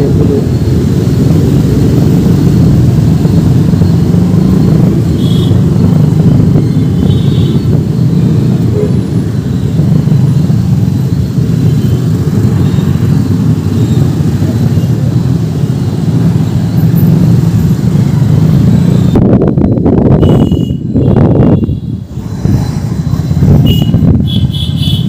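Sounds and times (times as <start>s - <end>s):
traffic engine rumble: 0.0s - 25.0s.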